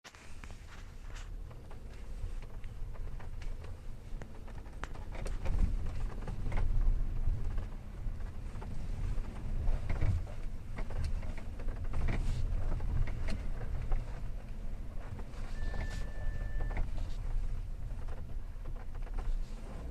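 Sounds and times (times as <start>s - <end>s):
car driving rumble: 0.1s - 19.9s
knocks and creaks over bumps: 0.1s - 19.9s.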